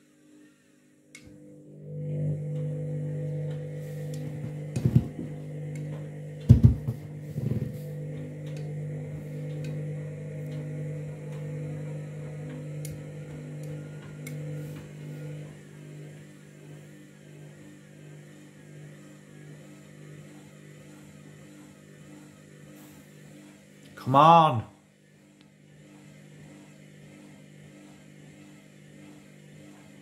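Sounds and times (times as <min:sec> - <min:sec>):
washing machine motor humming: 0:01.2 - 0:30.0.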